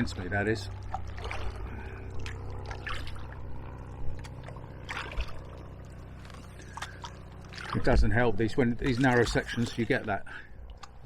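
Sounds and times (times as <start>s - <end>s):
water trickling: 0.6s - 11.0s
paddle strokes splashing: 0.7s - 11.0s.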